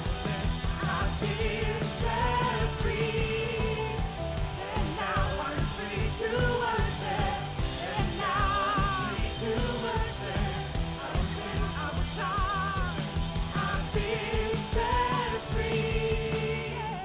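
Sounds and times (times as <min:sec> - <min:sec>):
band playing worship music: 0:00.0 - 0:17.0
person singing: 0:00.0 - 0:17.0.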